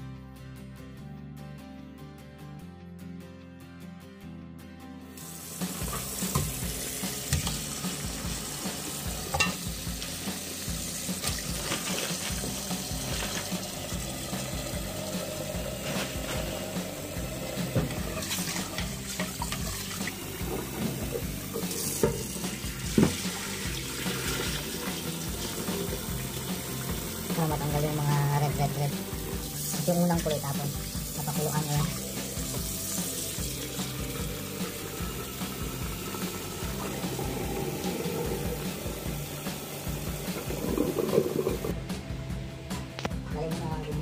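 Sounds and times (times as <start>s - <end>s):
tap water running into pot: 5.2s - 41.7s
knocks and splashes in pot: 5.6s - 41.7s.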